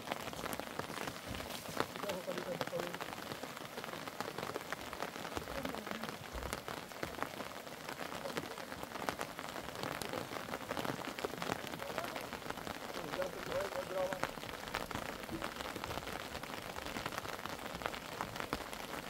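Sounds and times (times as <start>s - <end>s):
rain falling: 0.0s - 19.0s
raindrops ticking: 0.0s - 19.0s.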